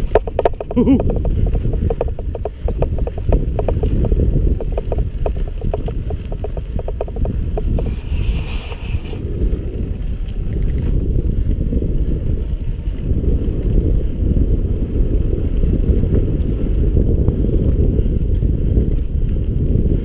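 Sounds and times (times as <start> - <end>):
tyre rumble over dirt: 0.0 - 17.1
bike clicks and rattles: 0.0 - 20.0
wind rushing over microphone: 0.0 - 20.0.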